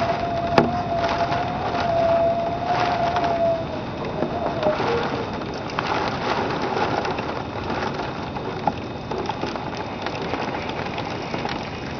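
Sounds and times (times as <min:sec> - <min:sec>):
high wind gusting: 0:00.0 - 0:11.9
rain spattering on a window: 0:00.0 - 0:11.9.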